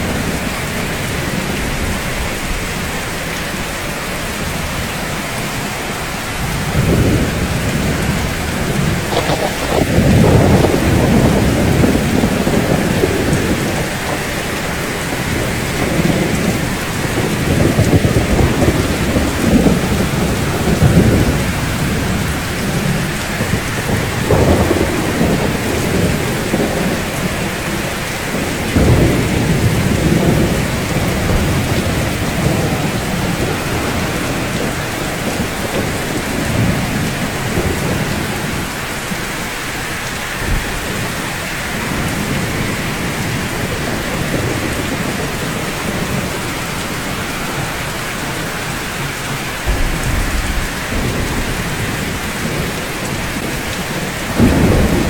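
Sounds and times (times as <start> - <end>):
steady rainfall: 0.0 - 55.0
distant thunder rumbling: 4.4 - 55.0.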